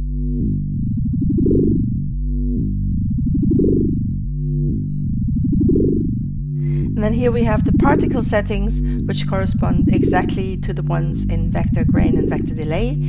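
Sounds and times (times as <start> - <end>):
low sustained synthesizer tone: 0.0 - 13.0.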